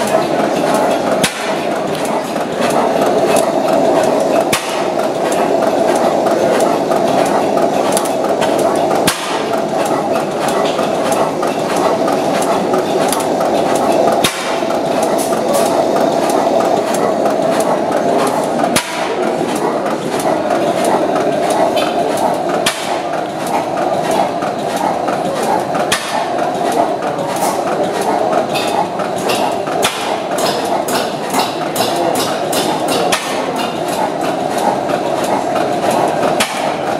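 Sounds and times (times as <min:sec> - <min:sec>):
engine knocking: 0:00.0 - 0:36.9
stationary oil engine clattering: 0:00.0 - 0:36.9.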